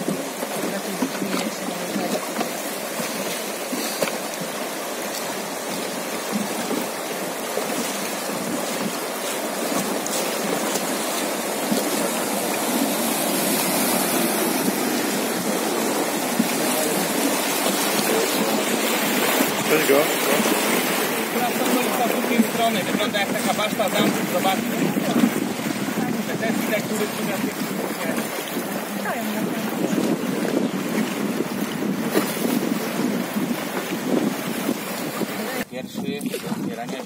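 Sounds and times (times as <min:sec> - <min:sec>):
river water rushing over rapids: 0:00.0 - 0:35.7.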